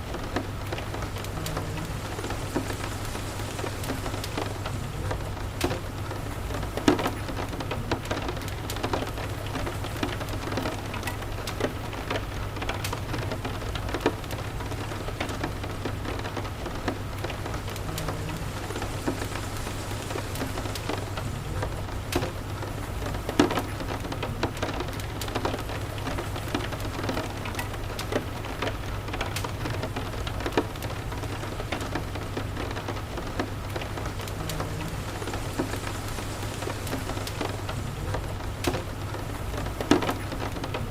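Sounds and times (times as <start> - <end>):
rain falling on a house: 0.0 - 40.9
wood fire crackling: 0.0 - 40.9.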